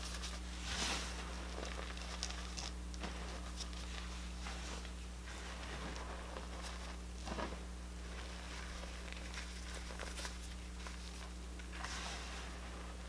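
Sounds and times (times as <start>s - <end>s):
chalk powder crunching: 0.0s - 13.0s.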